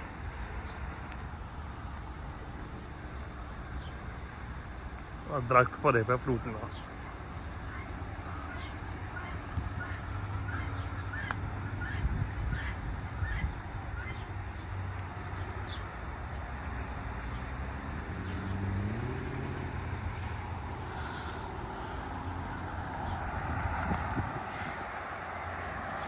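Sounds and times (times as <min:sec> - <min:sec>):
distant road traffic rumble: 0:00.0 - 0:26.0.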